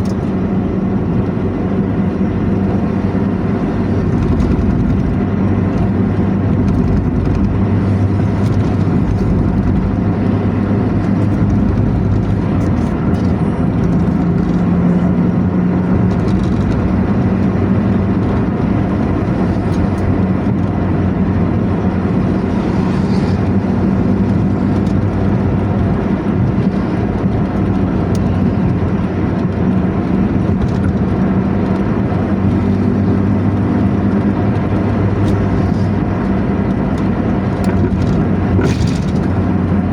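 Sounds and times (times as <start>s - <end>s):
bus diesel engine growling: 0.0s - 39.9s
road noise: 0.0s - 39.9s.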